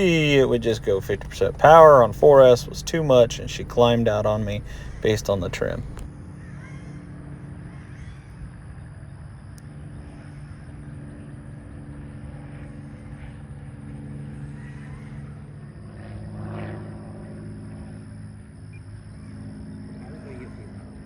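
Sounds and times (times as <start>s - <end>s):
electric motor and propeller droning: 0.0s - 21.0s.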